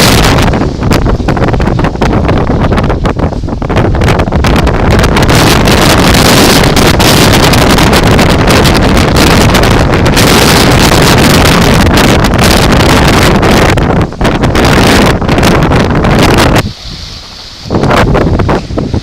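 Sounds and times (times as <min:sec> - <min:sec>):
strong wind roaring on microphone: 0:00.0 - 0:19.0.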